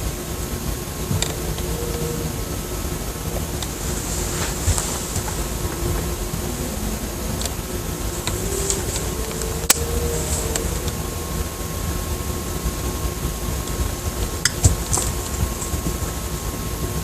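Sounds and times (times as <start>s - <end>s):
droning engine rumble: 0.0s - 17.0s
faint steady whine: 0.0s - 17.0s.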